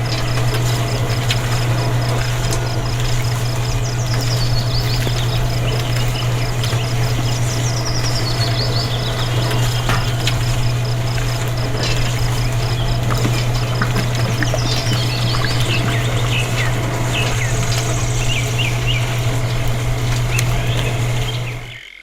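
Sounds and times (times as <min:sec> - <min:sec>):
small motor droning: 0:00.0 - 0:21.8
birds whistling: 0:00.0 - 0:22.0
fast high pulsing chirp: 0:00.0 - 0:22.0.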